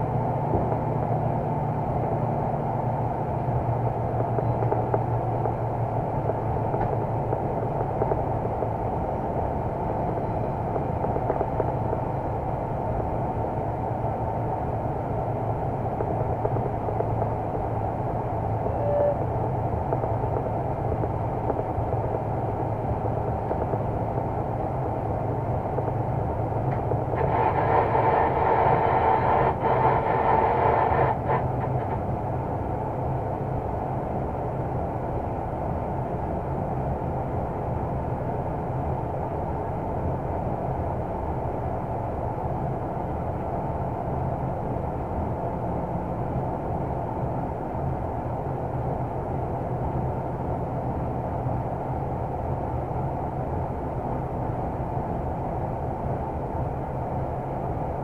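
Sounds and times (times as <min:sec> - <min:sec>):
diesel engine running: 0:00.0 - 0:58.0
wheels rumbling on rails: 0:00.0 - 0:58.0.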